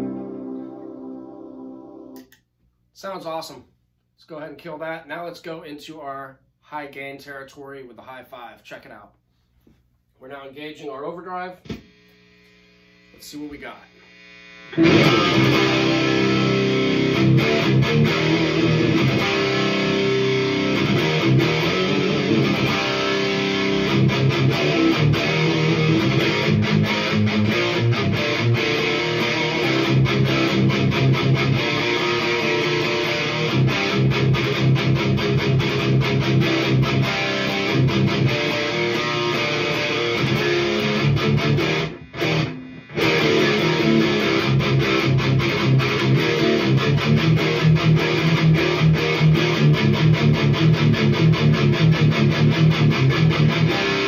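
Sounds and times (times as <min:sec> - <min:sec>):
distorted electric guitar riffing: 0:00.0 - 0:02.2, 0:11.6 - 0:54.0.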